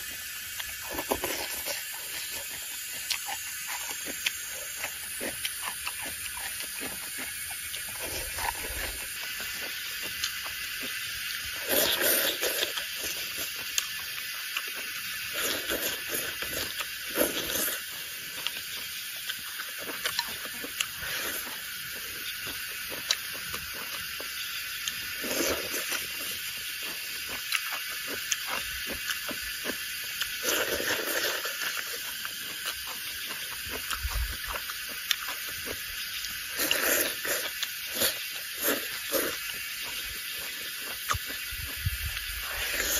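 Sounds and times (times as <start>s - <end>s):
person slurping and chewing: 0.0s - 42.9s
steady high hiss: 0.0s - 42.9s.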